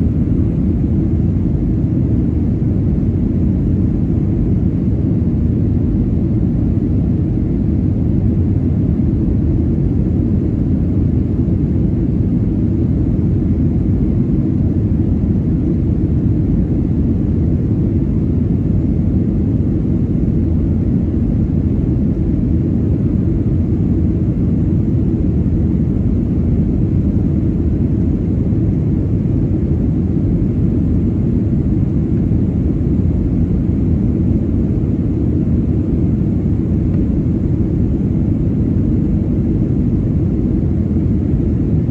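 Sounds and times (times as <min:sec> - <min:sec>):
airplane cabin roar: 0:00.0 - 0:41.9.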